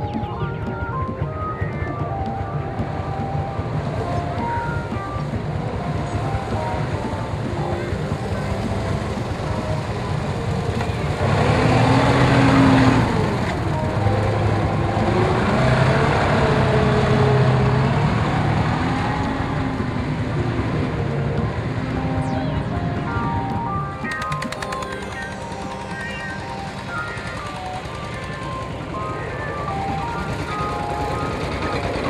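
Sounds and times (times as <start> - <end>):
tracked vehicle engine running: 0.0 - 32.0.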